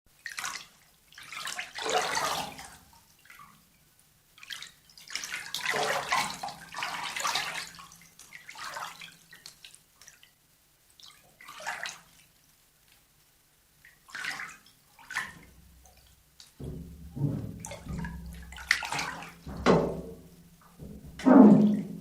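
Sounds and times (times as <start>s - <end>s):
water splashing in a bathtub: 0.1s - 22.0s.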